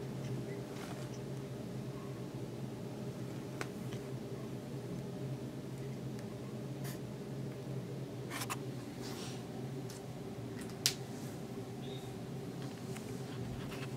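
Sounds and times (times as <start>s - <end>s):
low room hum: 0.0s - 13.9s.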